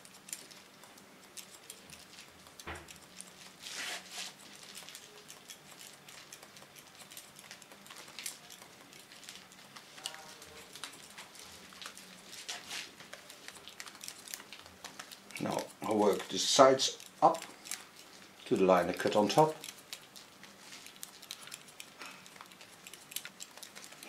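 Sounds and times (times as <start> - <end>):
scissors snipping hair: 0.0 - 24.0.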